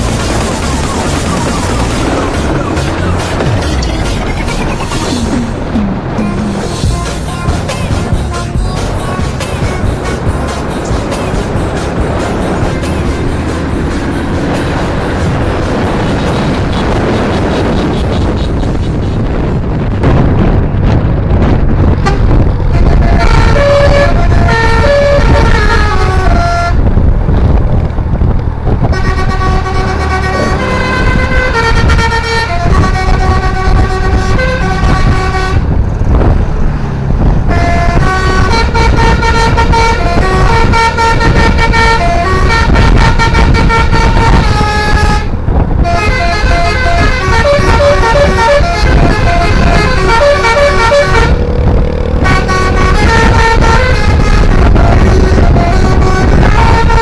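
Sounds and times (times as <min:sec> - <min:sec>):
steady low rumble: 0:00.0 - 0:57.0
multi-tone air horn melody: 0:05.1 - 0:19.5, 0:22.0 - 0:27.0, 0:28.8 - 0:35.8, 0:37.5 - 0:57.0.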